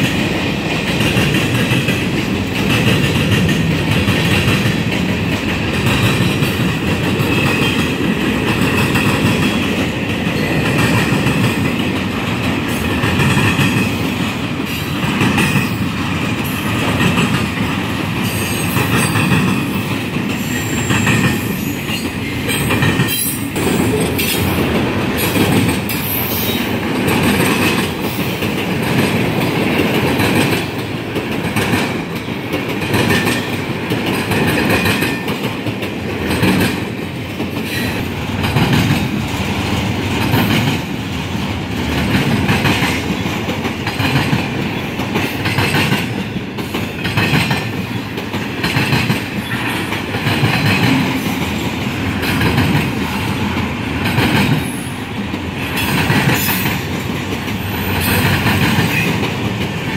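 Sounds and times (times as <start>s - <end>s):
train wheels clattering over crossing: 0.0s - 59.9s.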